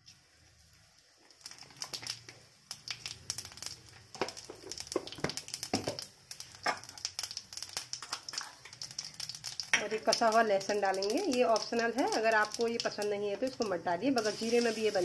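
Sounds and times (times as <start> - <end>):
seeds crackling in hot oil: 0.0 - 15.0.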